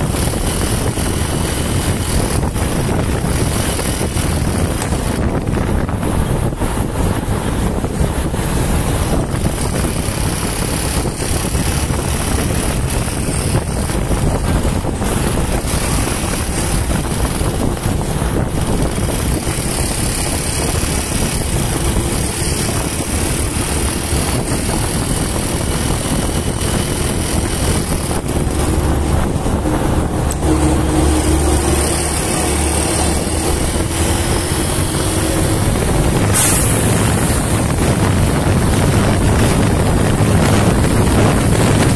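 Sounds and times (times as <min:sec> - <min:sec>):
motorcycle engine running: 0:00.0 - 0:41.9
road noise: 0:00.0 - 0:41.9
wind buffeting microphone: 0:00.0 - 0:41.9.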